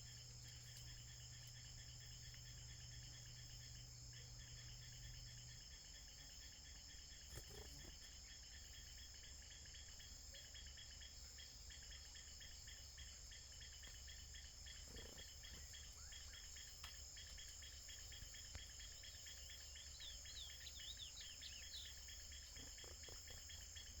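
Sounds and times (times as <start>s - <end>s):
crickets and insects trilling: 0.0s - 24.0s.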